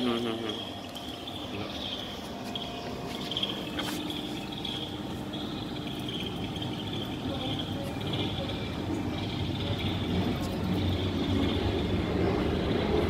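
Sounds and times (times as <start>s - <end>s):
motor hum with high whine: 0.0s - 13.0s.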